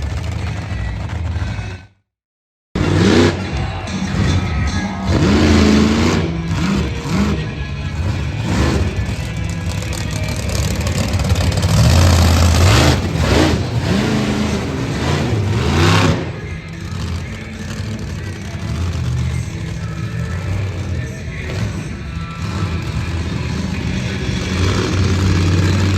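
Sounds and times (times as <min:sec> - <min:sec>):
monster truck engines revving: 0:00.0 - 0:02.0, 0:02.8 - 0:25.9
music playing: 0:02.8 - 0:25.9.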